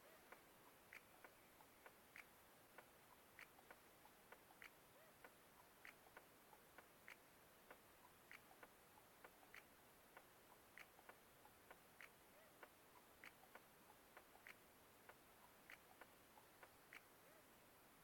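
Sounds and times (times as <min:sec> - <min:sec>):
faint small clicks and ticks: 0:00.0 - 0:17.7.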